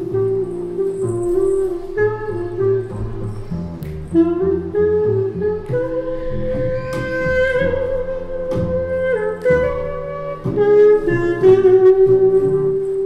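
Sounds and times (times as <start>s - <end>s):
double bass playing low notes: 0.0s - 13.0s
long held higher tone: 0.0s - 13.0s.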